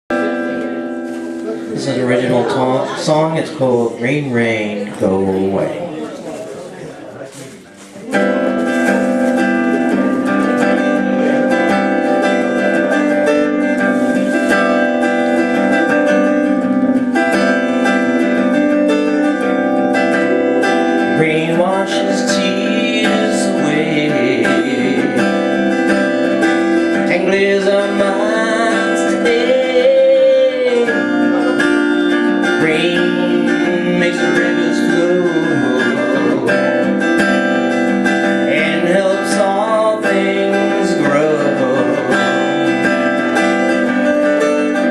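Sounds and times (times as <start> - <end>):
acoustic guitar playing: 0.1 - 44.9
man singing: 1.6 - 6.0, 8.6 - 16.5, 17.1 - 44.9.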